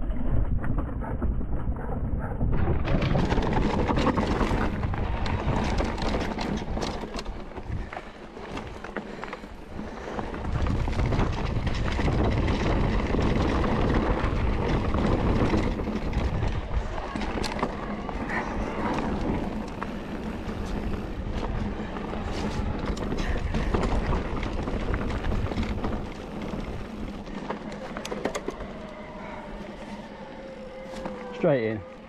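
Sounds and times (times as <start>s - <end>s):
wind rumble on microphone: 0.0s - 31.3s
bike rattling: 0.0s - 32.0s
bike tyres crunching over rocks: 2.8s - 32.0s.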